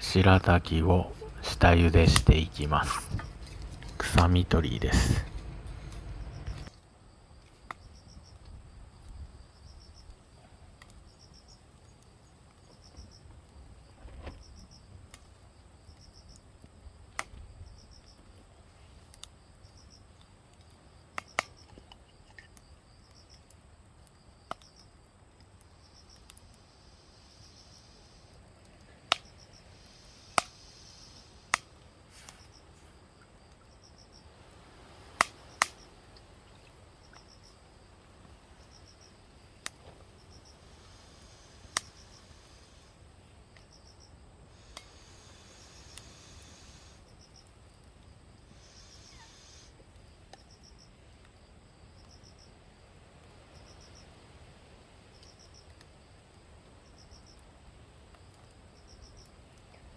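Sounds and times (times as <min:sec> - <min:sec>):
campfire crackling pops: 0:00.0 - 0:51.4, 0:55.1 - 0:59.9
insects chirping: 0:00.0 - 0:59.9.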